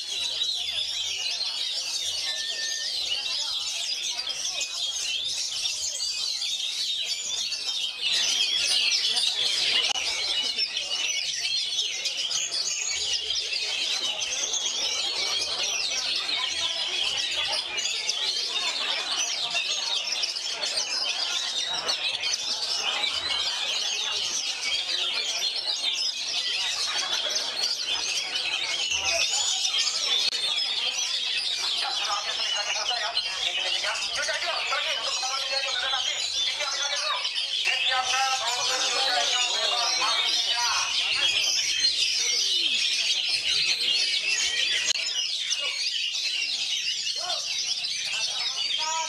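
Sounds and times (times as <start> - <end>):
birds singing whistles and chirps: 0.0 - 48.9.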